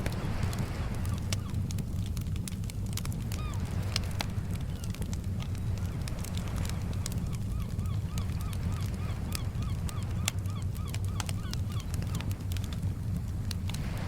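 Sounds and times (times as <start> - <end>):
campfire crackling: 0.0 - 14.0
gentle surf rumble: 0.0 - 14.0.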